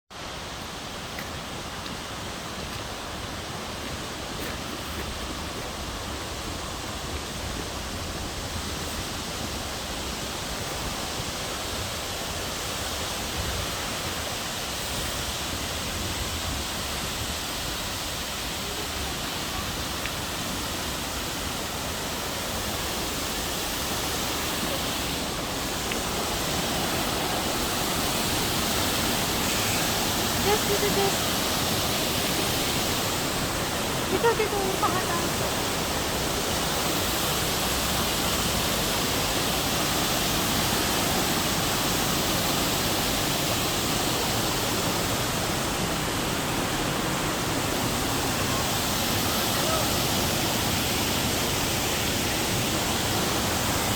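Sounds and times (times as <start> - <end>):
roaring waterfall: 0.1 - 53.9.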